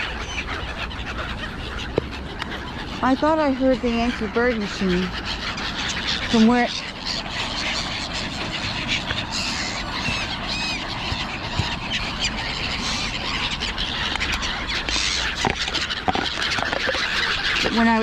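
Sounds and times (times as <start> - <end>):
outdoor background noise: 0.0 - 18.0
wild birds calling: 0.0 - 18.0.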